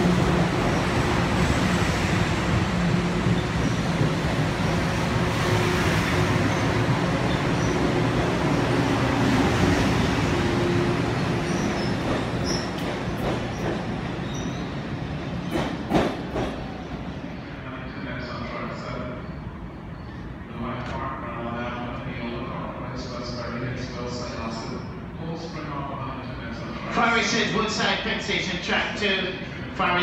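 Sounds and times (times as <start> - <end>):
electric train rumbling: 0.0 - 26.8.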